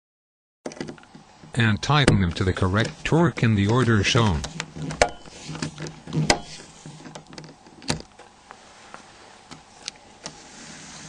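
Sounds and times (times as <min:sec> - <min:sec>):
faint low hum: 0:01.0 - 0:11.0.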